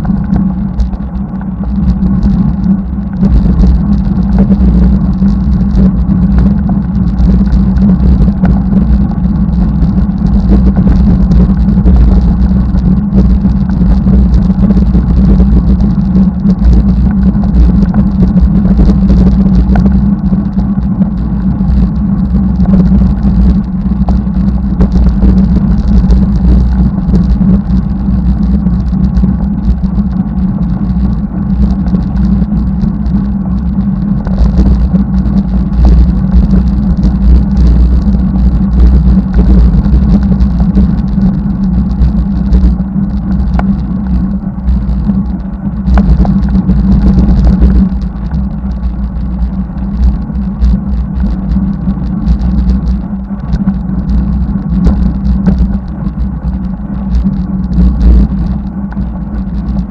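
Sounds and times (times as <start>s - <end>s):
tyre and road noise: 0.0s - 59.9s
wind buffeting microphone: 0.0s - 59.9s.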